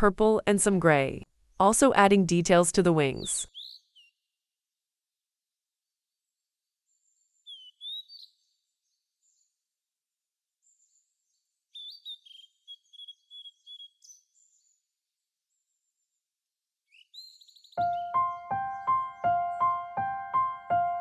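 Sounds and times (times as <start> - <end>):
songbird chirping: 0.0 - 4.4, 6.2 - 9.7, 10.6 - 16.2, 16.8 - 21.0.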